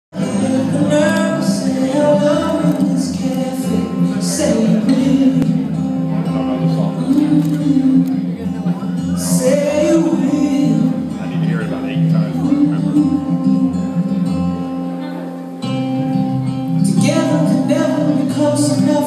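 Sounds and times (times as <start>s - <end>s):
person singing: 0.1s - 19.0s
instrumental accompaniment: 0.2s - 19.0s.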